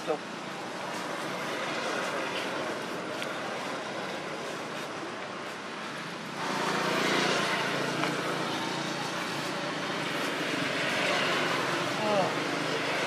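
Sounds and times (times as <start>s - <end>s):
traffic noise: 0.0s - 13.0s
vehicle engine humming: 0.0s - 13.0s.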